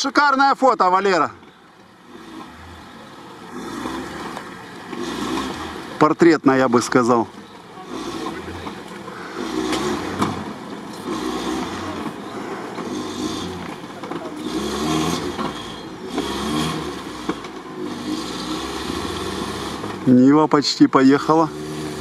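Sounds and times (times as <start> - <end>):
car engine revving hard: 1.9 - 22.0.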